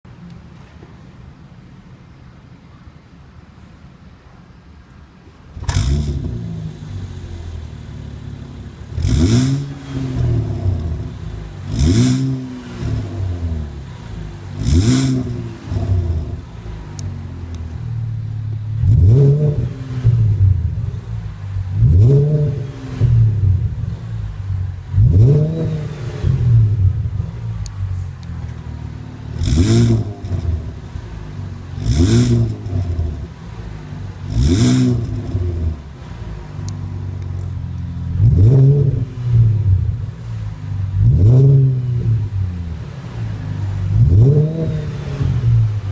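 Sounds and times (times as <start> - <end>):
car exhaust revving: 5.5 - 45.9.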